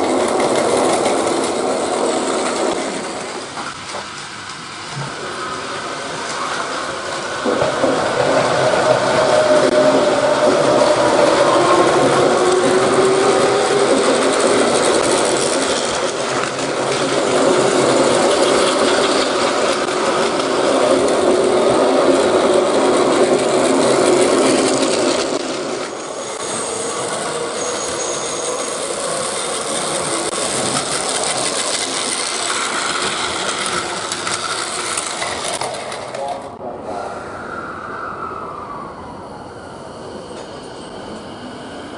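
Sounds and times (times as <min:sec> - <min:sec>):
train rumbling and clattering: 0:00.0 - 0:37.2, 0:38.5 - 0:41.9.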